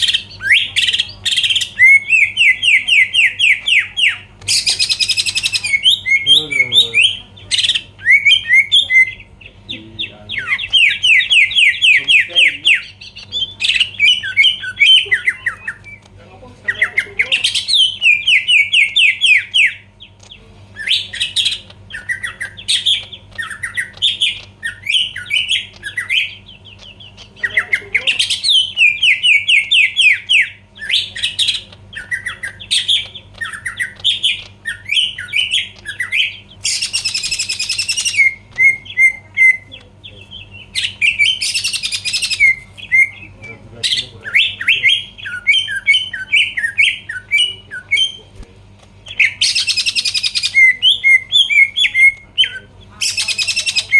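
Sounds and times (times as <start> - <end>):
bird chattering song: 0.0 - 53.9.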